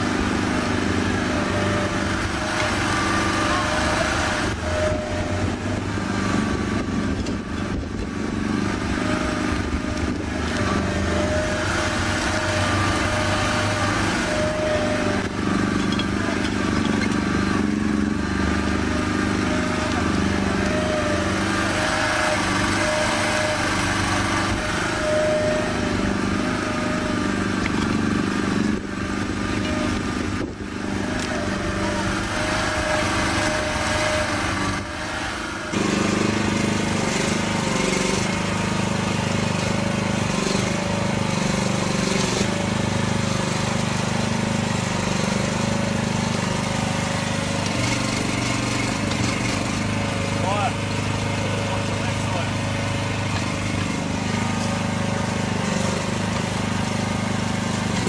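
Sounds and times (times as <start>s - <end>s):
hydraulic tone: 0.0s - 58.0s
small excavator engine running: 0.0s - 58.0s.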